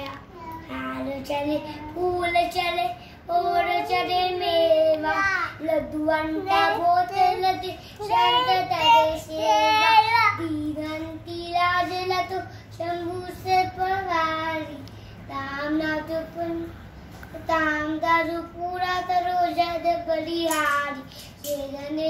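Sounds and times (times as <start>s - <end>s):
boy singing unaccompanied: 0.0s - 22.0s.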